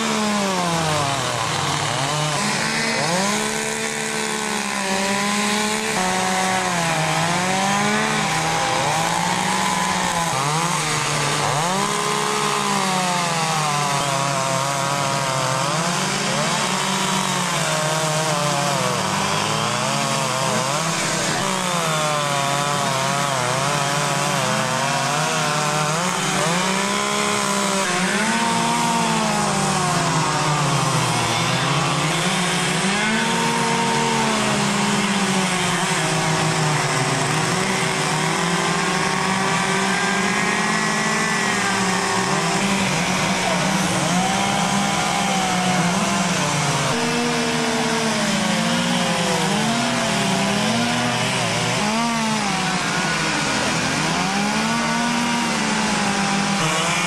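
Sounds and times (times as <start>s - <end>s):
chainsaws revving: 0.0s - 57.0s.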